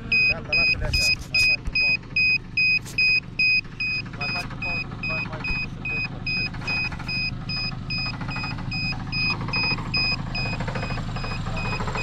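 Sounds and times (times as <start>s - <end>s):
engine running: 0.0s - 12.0s
vehicle warning beeper: 0.0s - 12.0s.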